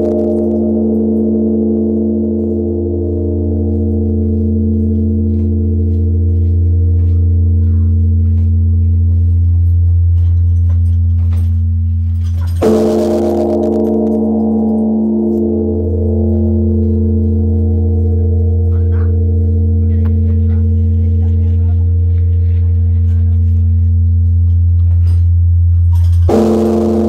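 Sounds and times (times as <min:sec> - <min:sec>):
large bronze bell ringing: 0:00.0 - 0:27.0.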